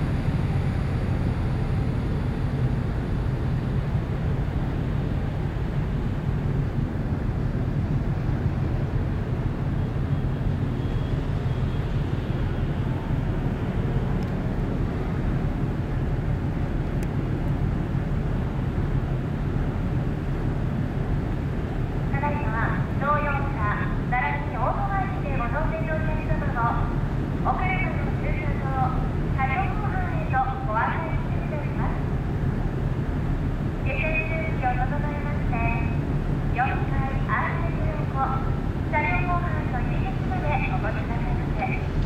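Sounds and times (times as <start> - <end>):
ferry engine low rumble: 0.0 - 42.0.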